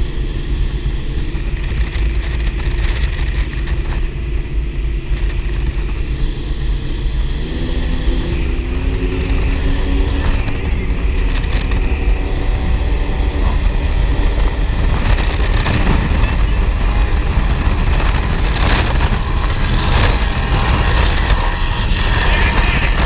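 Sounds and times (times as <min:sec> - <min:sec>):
powerboat engines rumbling: 0:00.0 - 0:23.0.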